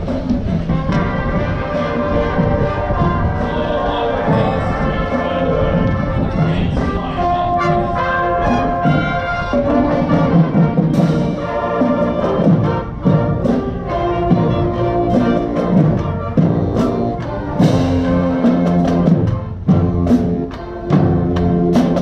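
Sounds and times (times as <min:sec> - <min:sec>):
brass instruments playing: 0:00.0 - 0:22.0.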